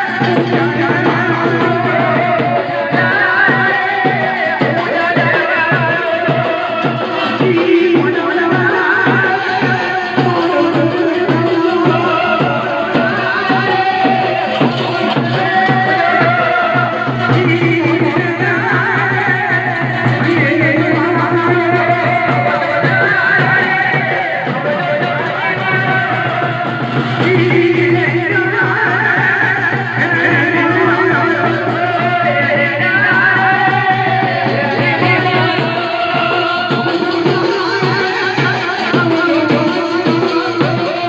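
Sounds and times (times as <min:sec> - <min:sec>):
dhol drum beating: 0:00.0 - 0:41.0
person singing: 0:00.0 - 0:41.0.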